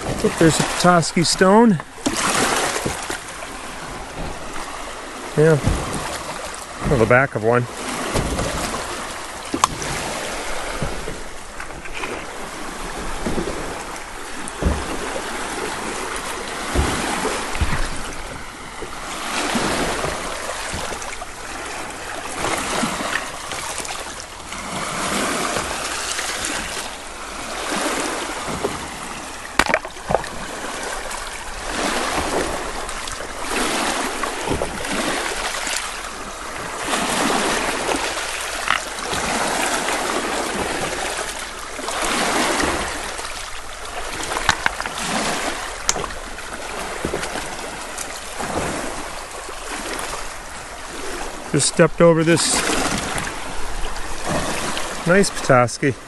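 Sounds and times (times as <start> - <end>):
waves washing over pebbles: 0.0 - 56.0.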